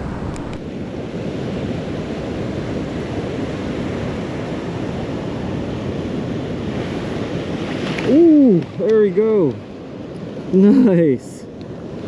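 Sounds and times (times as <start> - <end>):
ocean surf washing ashore: 0.0 - 12.0
wind buffeting microphone: 0.0 - 12.0.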